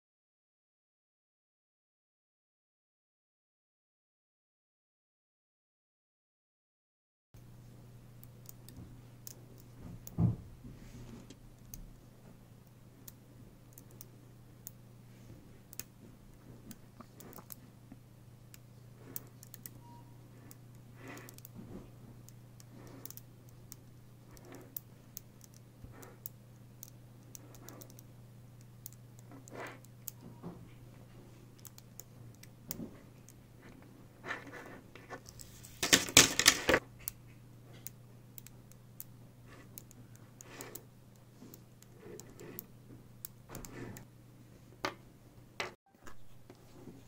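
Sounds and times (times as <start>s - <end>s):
steady low hum: 7.4s - 47.0s.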